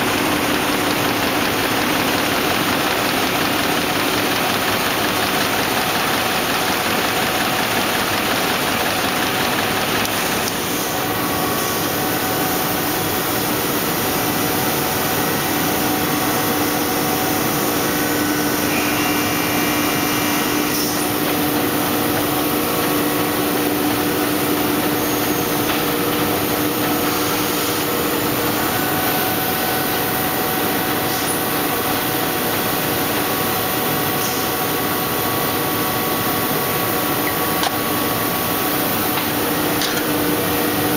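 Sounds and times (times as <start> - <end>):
folding machine running: 0.0 - 40.9.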